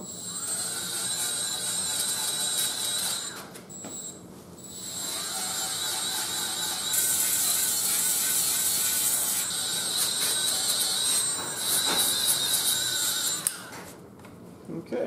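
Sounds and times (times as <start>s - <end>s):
die grinder whining: 0.0s - 3.5s, 4.6s - 14.0s.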